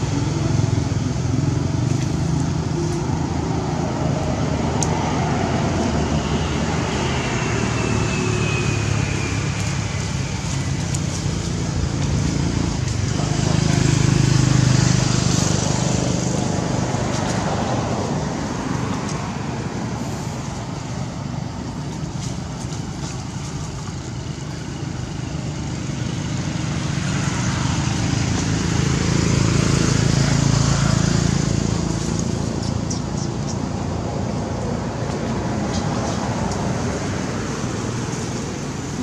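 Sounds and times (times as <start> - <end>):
vehicle engine drone: 0.0 - 39.0.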